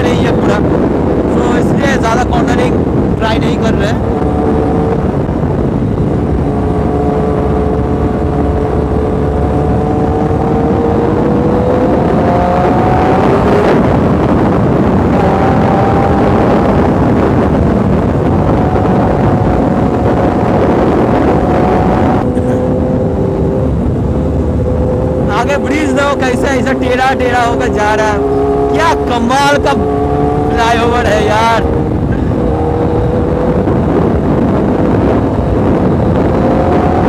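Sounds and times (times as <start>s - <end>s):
motorcycle engine cruising: 0.0s - 37.0s
wind rush over microphone: 0.0s - 37.0s.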